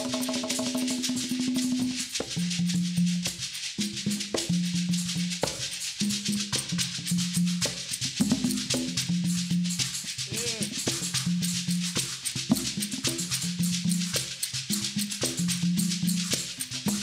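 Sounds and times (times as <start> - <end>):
shaker percussion rattling: 0.0 - 17.0.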